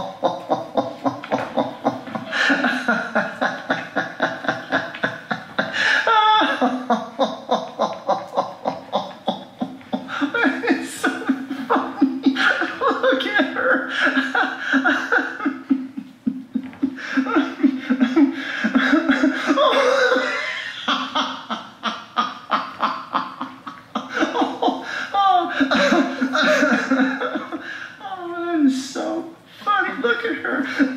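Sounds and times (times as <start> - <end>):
person laughing: 0.0 - 30.9.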